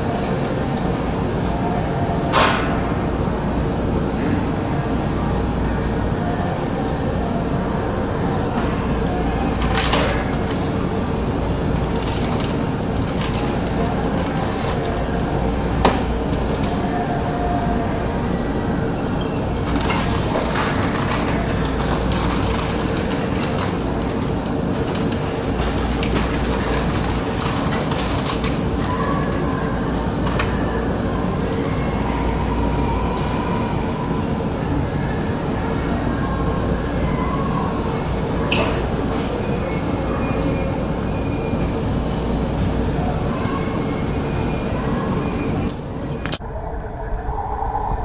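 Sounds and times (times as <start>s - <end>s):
ventilation hum: 0.0s - 48.0s.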